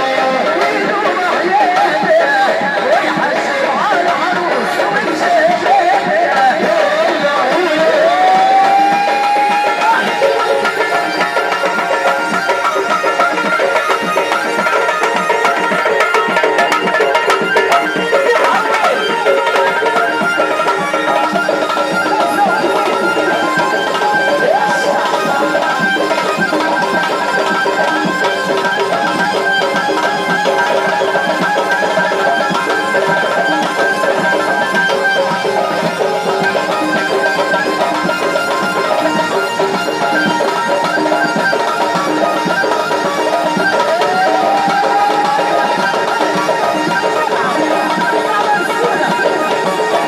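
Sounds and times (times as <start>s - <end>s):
hand drums beating: 0.0s - 50.0s
sustained melodic instrument: 2.8s - 50.0s.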